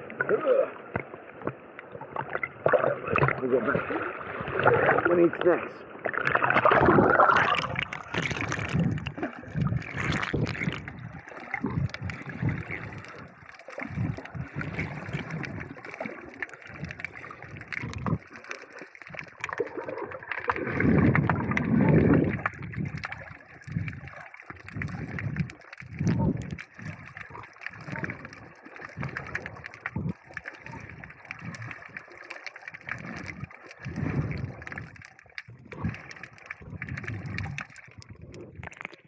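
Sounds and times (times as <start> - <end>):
muffled underwater churning: 0.0 - 39.0.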